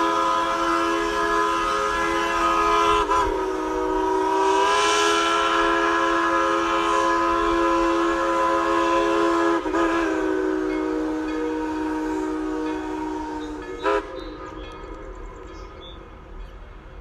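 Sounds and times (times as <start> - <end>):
steam locomotive chime whistle: 0.0 - 17.0.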